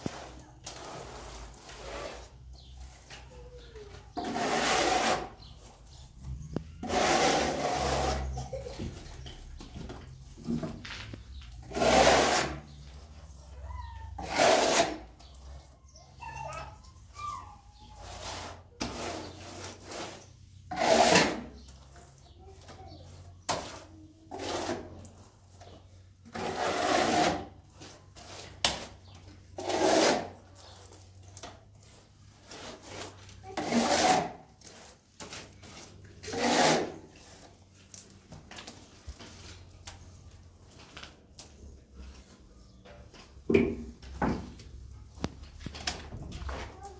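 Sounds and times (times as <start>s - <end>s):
float scraping wet plaster: 0.0s - 17.1s, 17.7s - 42.8s.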